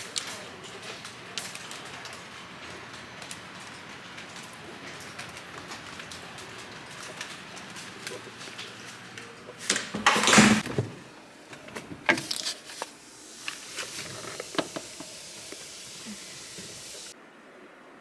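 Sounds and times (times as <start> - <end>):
handling clicks and knocks: 0.0 - 15.6
rustling clatter: 0.0 - 15.6.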